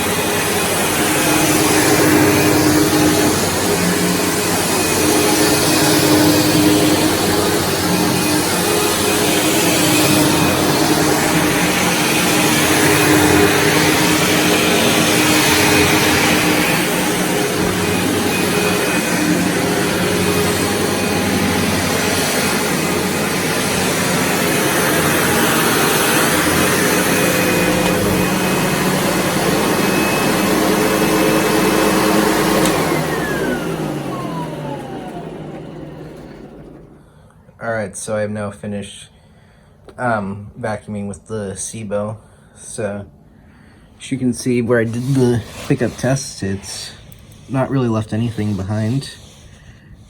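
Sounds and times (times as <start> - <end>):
vacuum cleaner on carpet: 0.0 - 37.0, 44.0 - 50.0.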